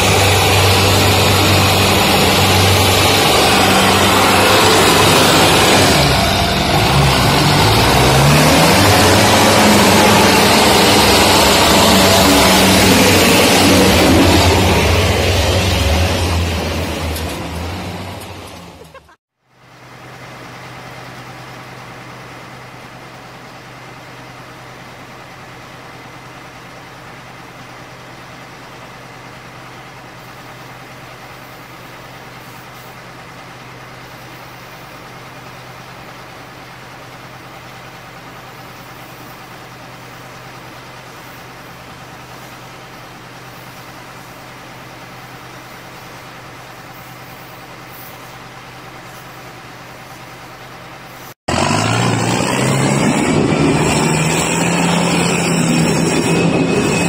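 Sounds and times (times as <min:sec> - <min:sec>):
loud tractor engine revving: 0:00.0 - 0:19.2, 0:19.9 - 0:57.0
tractor diesel engine under load: 0:00.0 - 0:57.0.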